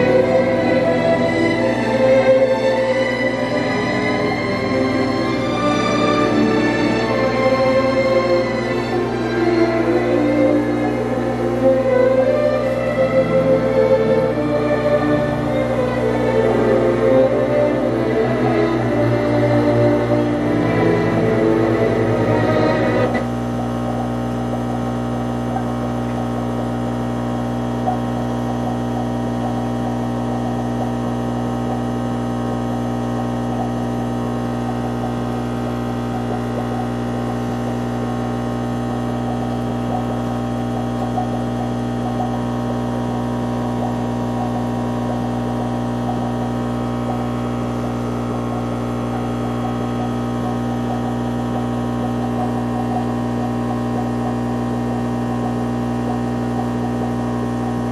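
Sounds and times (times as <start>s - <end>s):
aquarium air pump humming: 0.0s - 57.9s.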